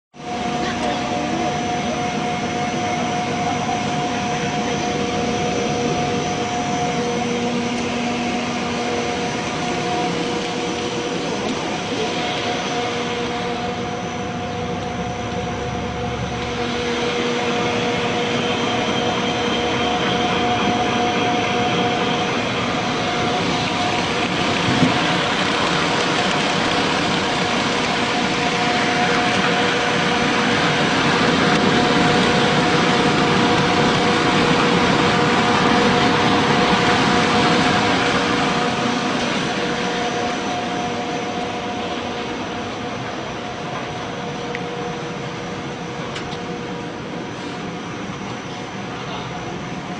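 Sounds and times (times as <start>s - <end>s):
factory machinery whirring: 0.2s - 49.9s.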